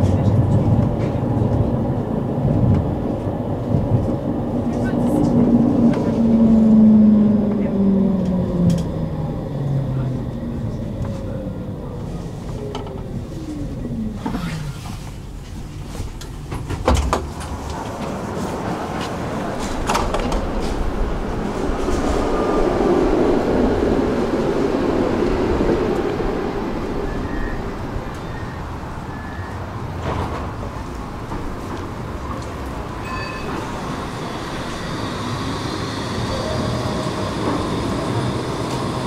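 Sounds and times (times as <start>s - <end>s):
tram motor whine: 0.0s - 14.8s, 17.1s - 39.0s
tram rumble: 0.0s - 39.0s.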